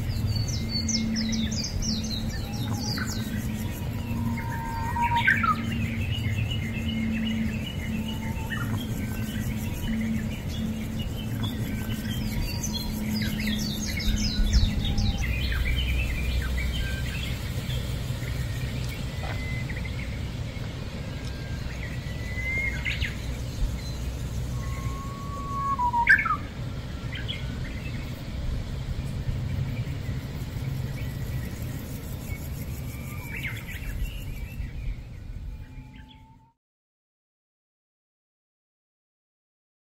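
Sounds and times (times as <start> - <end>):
small birds chirping: 0.0 - 36.4
steady low hum: 0.0 - 36.4.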